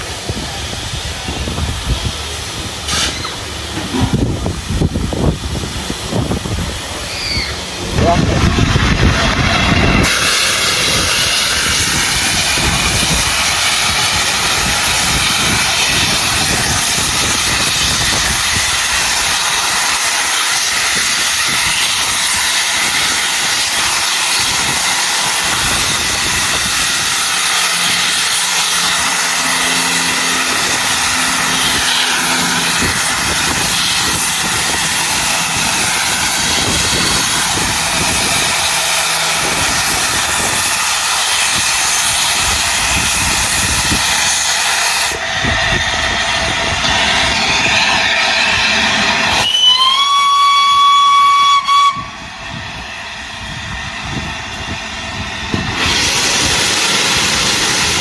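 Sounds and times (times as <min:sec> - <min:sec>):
locomotive steam hiss: 0:00.0 - 0:58.0.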